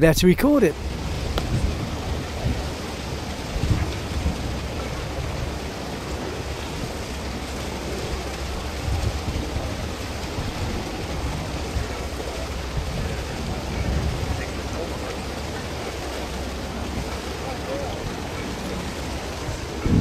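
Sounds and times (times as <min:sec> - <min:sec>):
wind buffeting microphone: 0:00.7 - 0:20.0.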